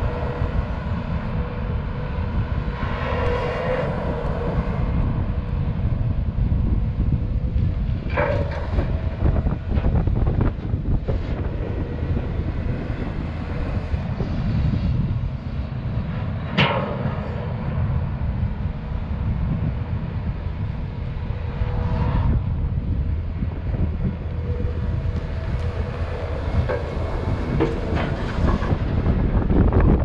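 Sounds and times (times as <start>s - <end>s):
excavator diesel engine rumbling: 0.0s - 30.0s.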